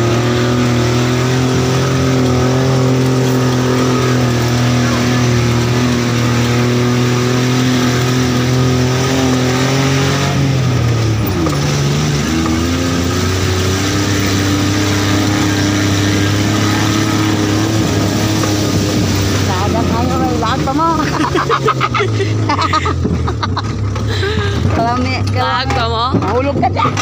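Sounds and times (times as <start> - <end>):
vehicle engine pulling under load: 0.0 - 27.0.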